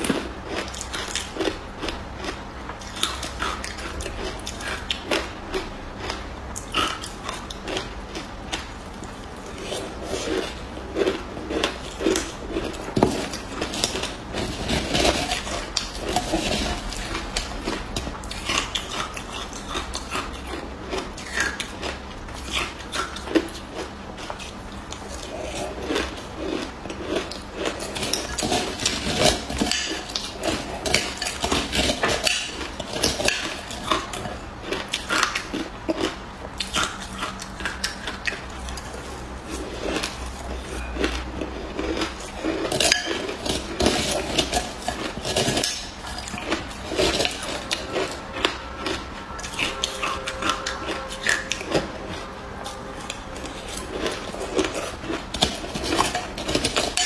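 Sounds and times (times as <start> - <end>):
crunching and chewing shaved ice: 0.0 - 57.0.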